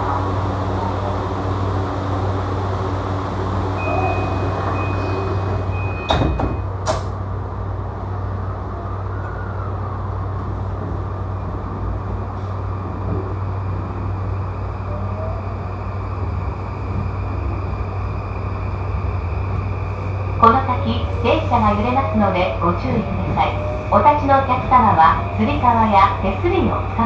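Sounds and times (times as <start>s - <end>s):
train running hum and rolling: 0.0s - 27.0s.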